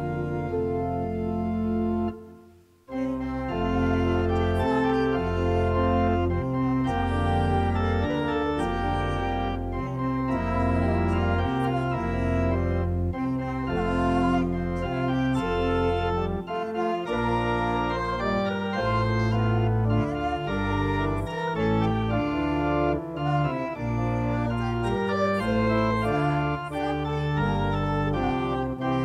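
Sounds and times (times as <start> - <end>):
church organ playing chords: 0.0 - 29.0.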